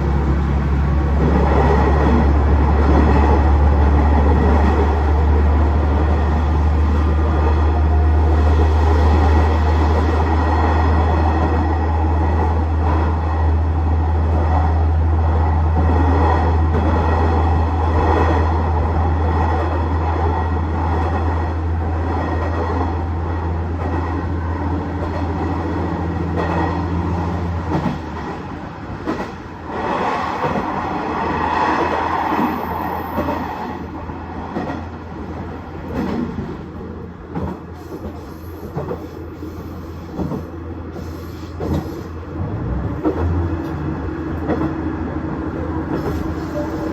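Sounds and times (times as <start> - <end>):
diesel railcar engine drone: 0.0 - 46.9
wheel and rail noise: 0.0 - 46.9.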